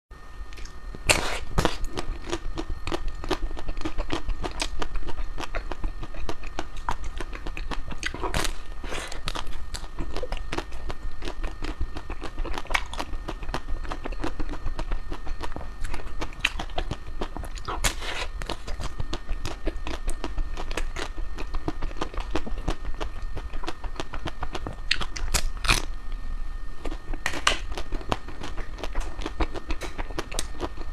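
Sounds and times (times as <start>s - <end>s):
chewing crispy ice cream: 0.5s - 25.9s, 26.8s - 30.9s.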